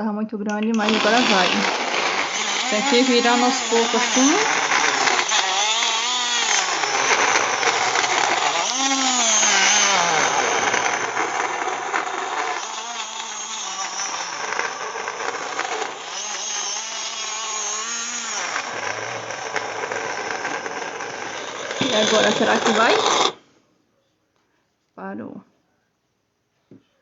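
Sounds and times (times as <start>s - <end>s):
blender motor whining: 0.7s - 23.4s.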